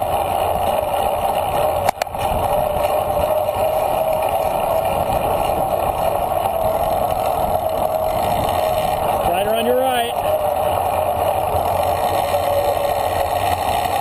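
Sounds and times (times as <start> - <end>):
rolling road noise: 0.0 - 14.0
wind rush: 0.0 - 14.0.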